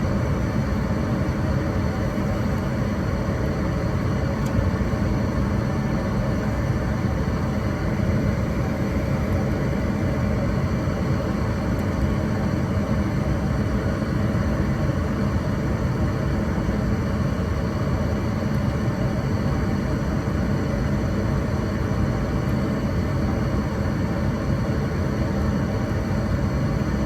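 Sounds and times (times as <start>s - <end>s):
furnace fan and burners rumbling: 0.0s - 27.0s.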